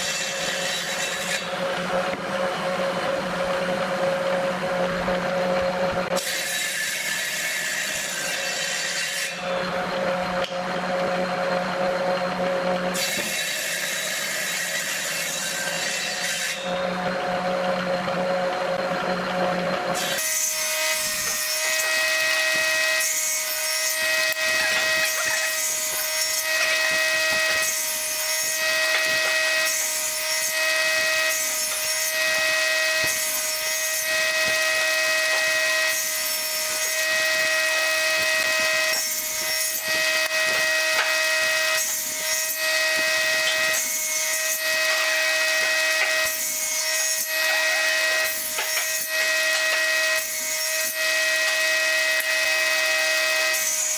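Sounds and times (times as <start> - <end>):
saw blade cutting wood: 0.0 - 53.9
table saw whining: 0.0 - 53.9.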